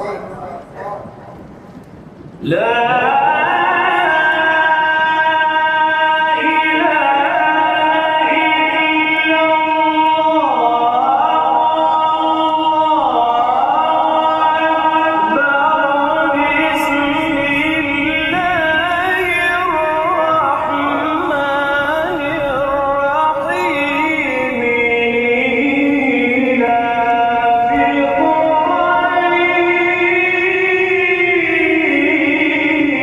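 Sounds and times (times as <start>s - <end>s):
man chanting melodic recitation: 0.0s - 1.2s, 2.4s - 33.0s.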